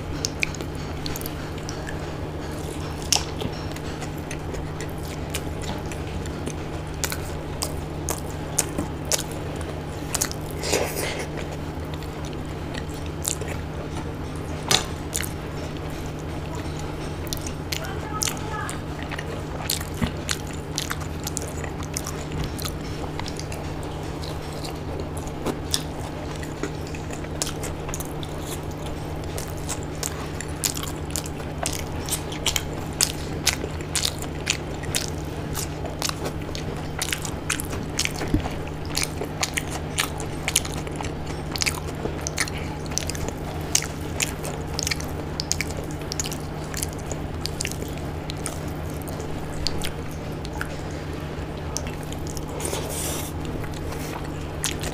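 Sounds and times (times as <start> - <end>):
chewing and lip smacks: 0.0 - 54.9
fingers squishing soft food: 0.0 - 54.9
steady low hum: 0.0 - 54.9.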